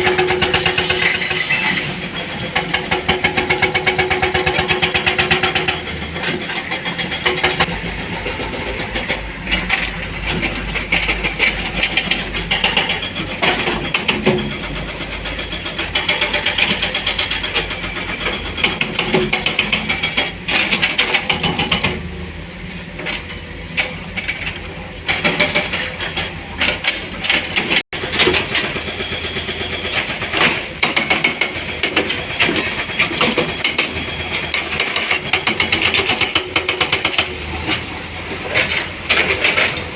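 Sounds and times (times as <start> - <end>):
diesel engines under load: 0.0 - 39.9.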